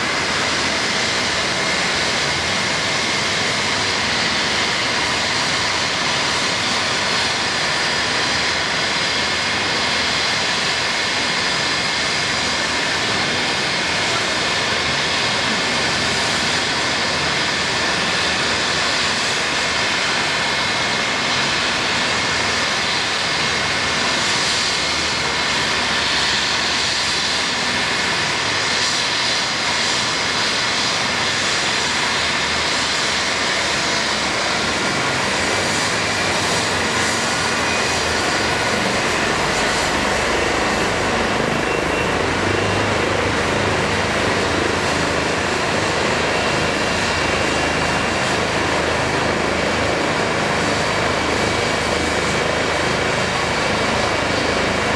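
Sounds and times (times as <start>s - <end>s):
helicopter turbine whine: 0.0s - 54.9s.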